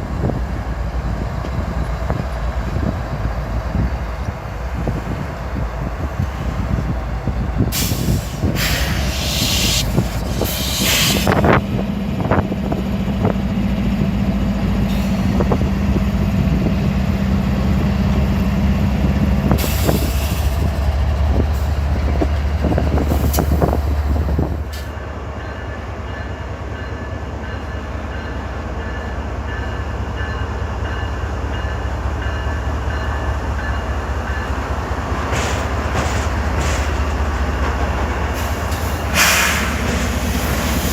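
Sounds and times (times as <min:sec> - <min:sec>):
diesel train engine drone: 0:00.0 - 0:40.9
rail rumble: 0:00.0 - 0:40.9.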